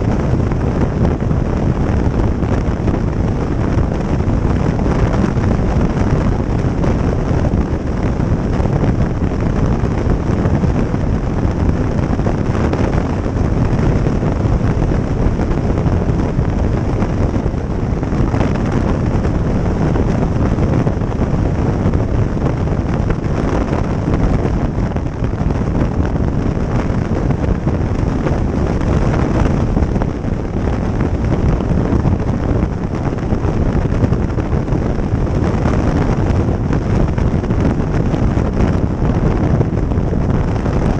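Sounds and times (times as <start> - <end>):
motorcycle running: 0.0 - 40.9
wind buffeting microphone: 0.0 - 40.9.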